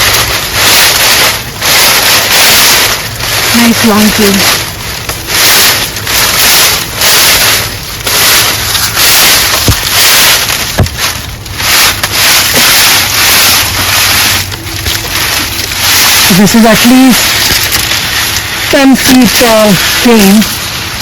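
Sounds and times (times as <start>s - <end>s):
cane stalk dragged: 0.0s - 21.0s
dry leaves rustling: 0.0s - 21.0s
sharp cracks: 0.0s - 21.0s.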